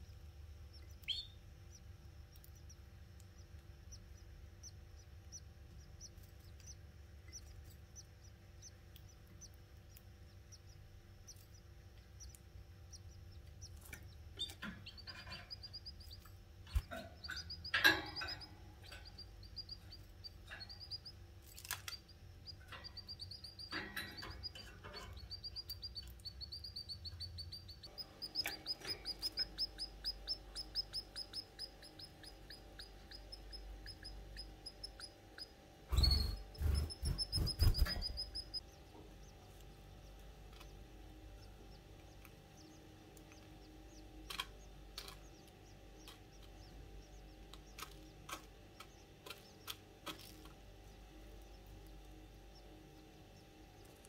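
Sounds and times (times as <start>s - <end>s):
nestlings cheeping: 0.1s - 54.0s.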